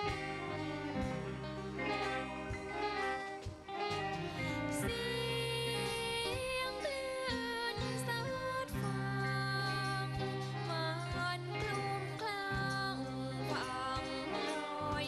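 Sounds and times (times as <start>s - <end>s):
band melody with bending notes: 0.0s - 15.0s
steady bass line: 0.0s - 15.0s.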